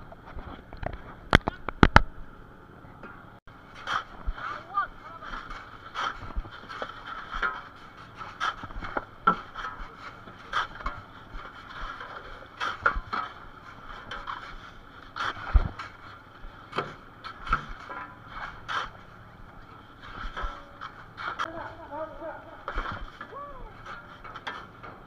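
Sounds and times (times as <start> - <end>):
background drone: 0.0 - 25.0
shovels scraping ice: 3.7 - 24.8.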